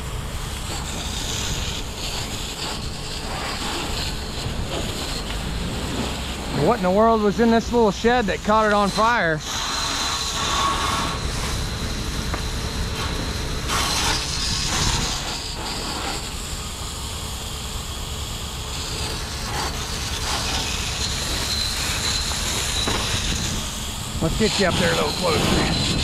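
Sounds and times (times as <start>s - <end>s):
fire hose spraying water: 0.0s - 26.0s.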